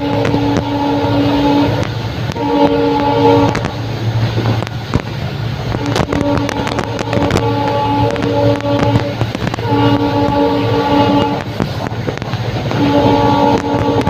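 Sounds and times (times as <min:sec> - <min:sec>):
locomotive horn blasts: 0:00.0 - 0:14.0
train low rumble: 0:00.0 - 0:14.0
train wheels clattering on rails: 0:00.0 - 0:14.0.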